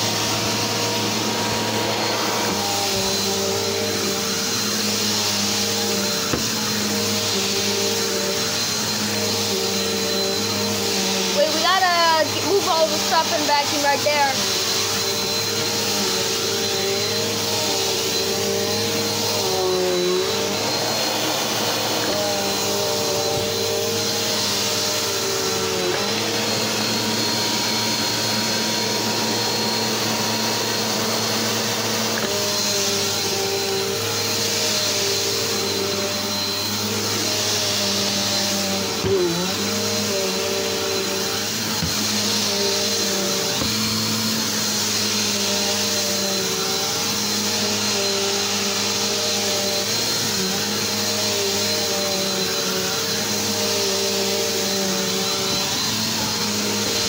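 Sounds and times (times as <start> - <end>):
vacuum cleaner running over carpet: 0.0 - 57.0.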